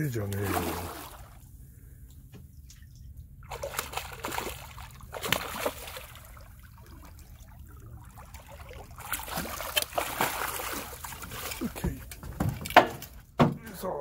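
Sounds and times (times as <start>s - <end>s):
low steady hum: 0.0s - 14.0s
fish splashing in water: 0.3s - 1.4s, 2.8s - 13.1s.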